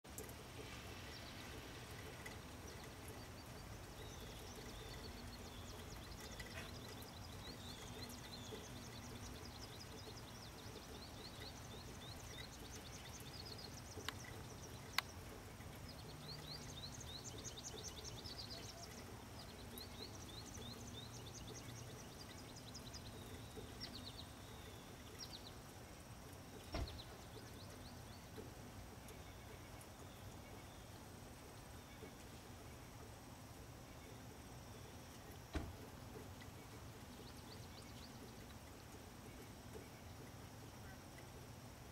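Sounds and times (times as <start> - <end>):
birds chirping and trilling: 0.1 - 41.7
low steady rumble: 0.1 - 41.9.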